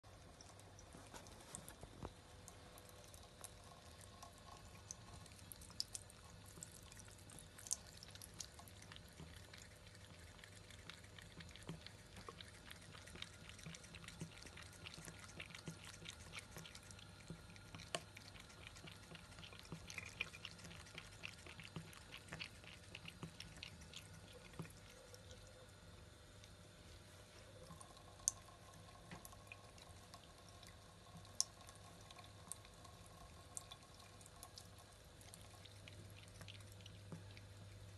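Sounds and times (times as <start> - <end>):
cat lapping water: 0.1 - 37.9
tap water trickling into basin: 0.2 - 25.8, 27.6 - 37.8.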